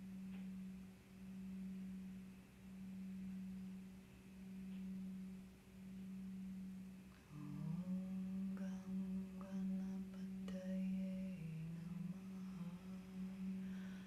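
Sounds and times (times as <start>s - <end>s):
steady low tone: 0.0s - 14.0s.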